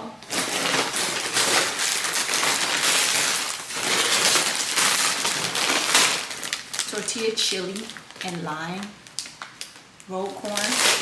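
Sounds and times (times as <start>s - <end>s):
bags crinkling and rustling: 0.2s - 11.0s.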